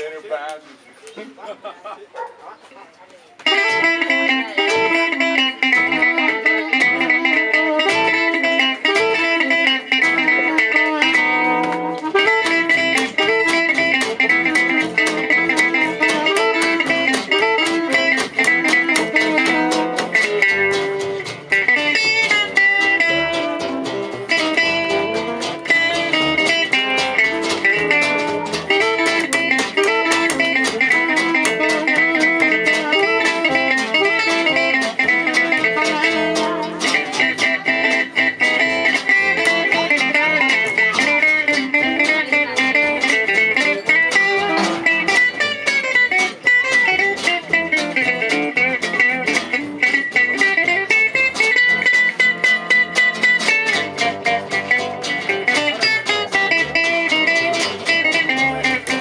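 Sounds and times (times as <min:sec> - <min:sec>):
gypsy jazz band playing: 0:00.0 - 0:02.8, 0:03.4 - 0:59.0
plucked guitars strumming: 0:03.4 - 0:59.0.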